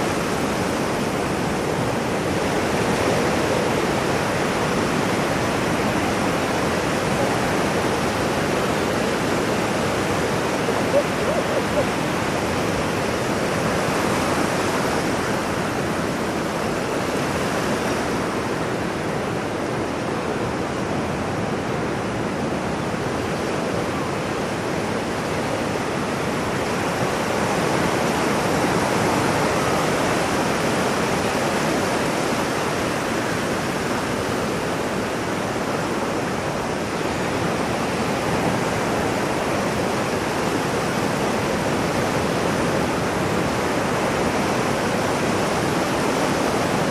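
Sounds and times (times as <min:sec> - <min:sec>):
ocean waves: 0:00.0 - 0:46.9.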